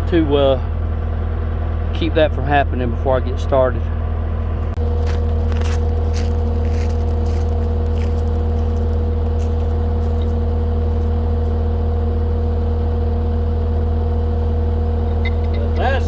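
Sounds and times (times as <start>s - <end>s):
engine running with whine: 0.0s - 16.0s.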